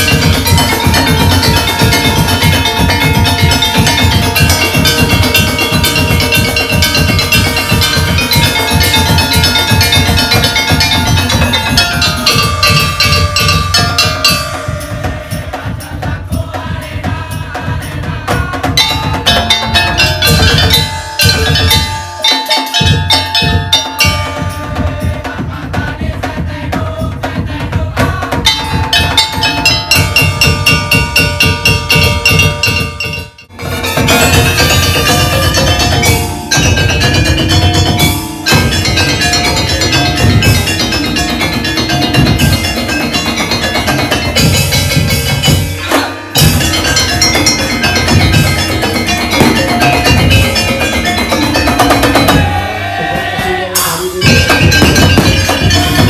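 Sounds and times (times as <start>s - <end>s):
mallet-struck metal bars ringing: 0.0s - 15.4s, 18.8s - 25.2s, 28.4s - 52.6s, 54.2s - 56.0s
heavy drums: 0.0s - 56.0s.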